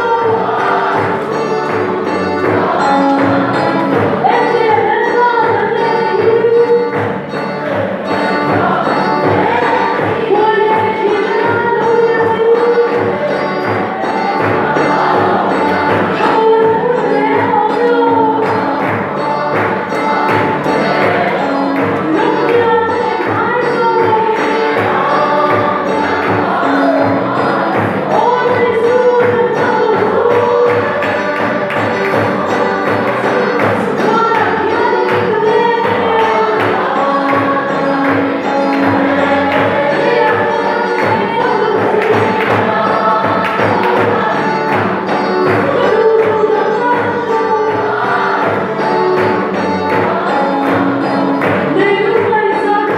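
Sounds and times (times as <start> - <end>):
group singing a hymn: 0.0 - 52.9
steady drum beat: 7.0 - 51.8.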